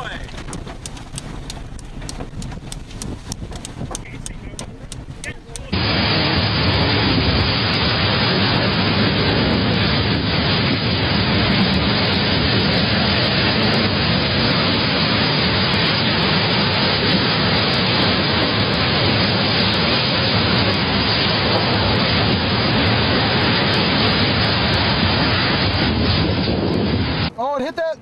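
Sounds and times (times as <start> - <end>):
strong wind on microphone: 0.0 - 27.4.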